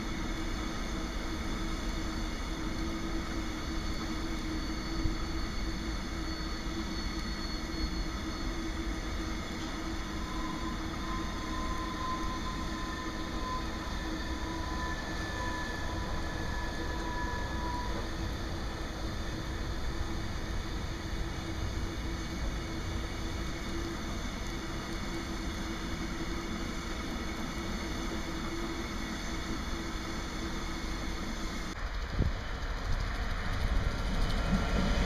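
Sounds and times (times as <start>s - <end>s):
faint high whine: 0.0s - 35.0s
train wheels rumbling on rails: 0.0s - 35.0s.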